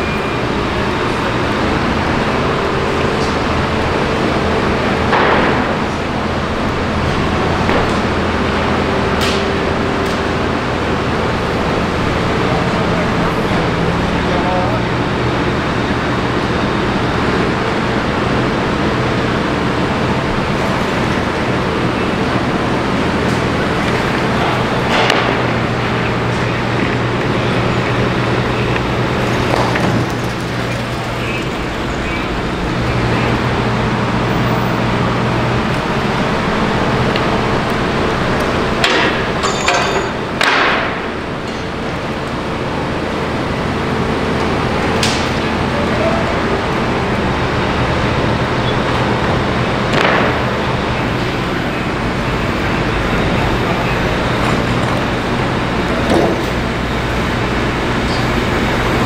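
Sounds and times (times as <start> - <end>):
excavator diesel engine humming: 0.0 - 59.0.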